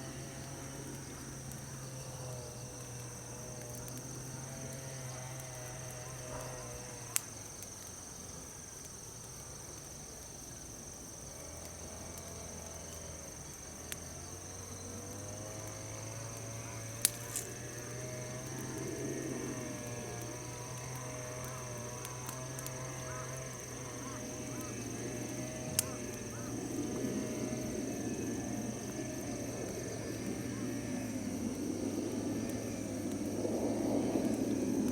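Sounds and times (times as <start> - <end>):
crickets trilling: 0.0 - 34.9.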